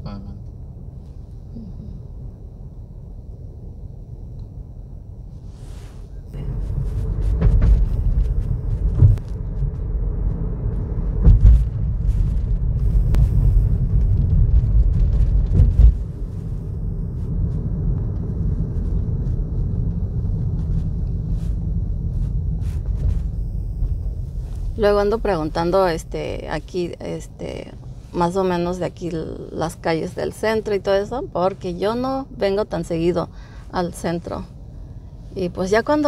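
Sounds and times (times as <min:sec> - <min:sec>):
vehicle rumbling: 0:00.0 - 0:36.0.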